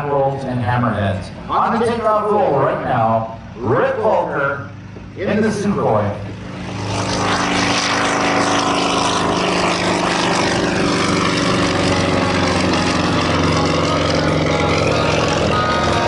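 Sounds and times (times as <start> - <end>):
propeller plane engine running: 0.0 - 16.0.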